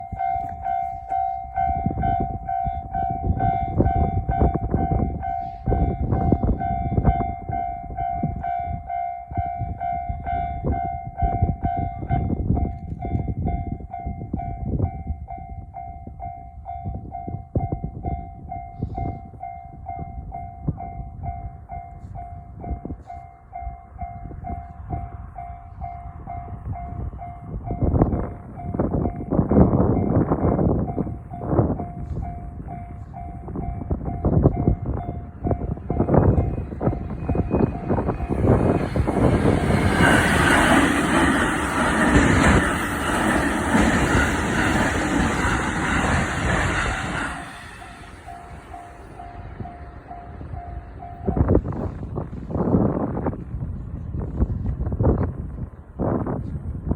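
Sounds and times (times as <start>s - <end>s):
railway crossing bell ringing: 0.0s - 52.1s
train rumble and rail clatter: 0.0s - 56.9s.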